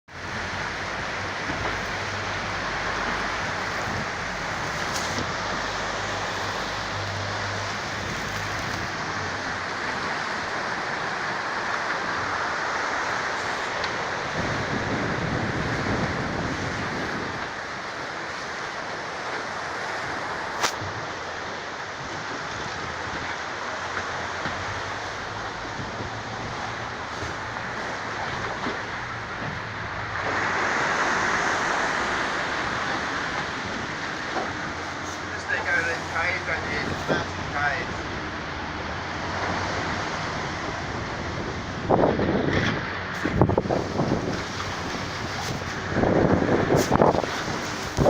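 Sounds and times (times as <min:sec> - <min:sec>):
waterfall roaring: 0:00.1 - 0:48.0.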